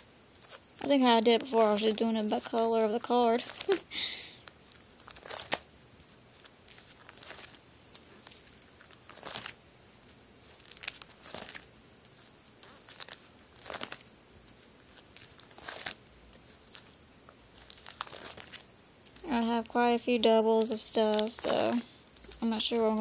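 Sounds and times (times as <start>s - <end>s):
plastic binder pages crinkling: 0.0s - 23.0s.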